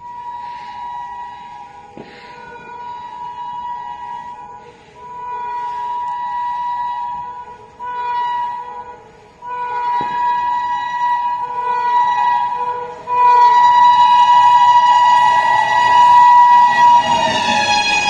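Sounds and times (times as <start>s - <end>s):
locomotive horn blasts: 0.0s - 18.0s.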